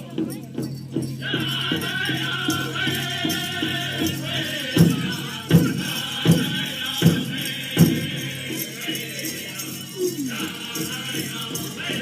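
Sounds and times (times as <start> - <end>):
big drum strokes: 0.0 - 12.0
people singing in high voices: 1.2 - 12.0.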